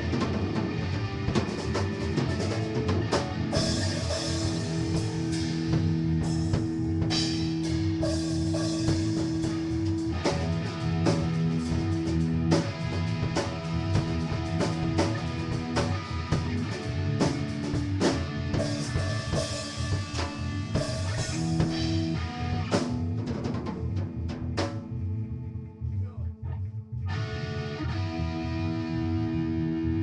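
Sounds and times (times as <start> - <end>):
rock drum kit: 0.0 - 25.3
electric guitar: 0.0 - 30.0.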